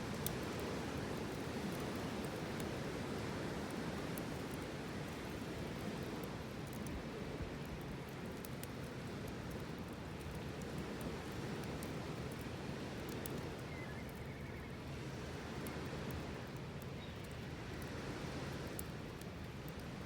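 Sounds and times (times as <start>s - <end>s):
faint clicks and crackles: 0.0s - 14.7s, 15.4s - 20.0s.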